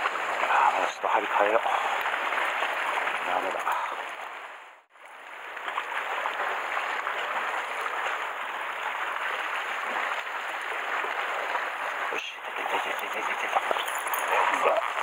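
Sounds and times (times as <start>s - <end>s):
sea water splashing on rocks: 0.0s - 4.6s, 5.2s - 15.0s.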